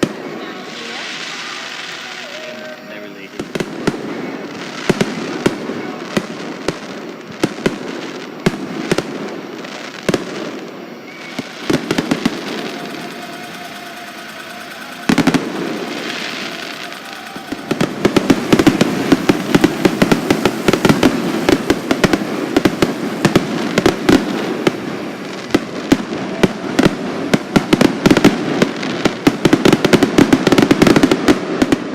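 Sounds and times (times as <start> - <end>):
fireworks banging and crackling: 0.0 - 31.9.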